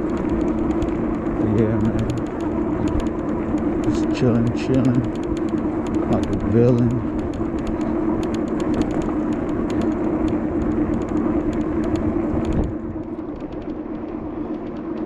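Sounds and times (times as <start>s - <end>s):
vehicle traffic hum: 0.0s - 15.0s.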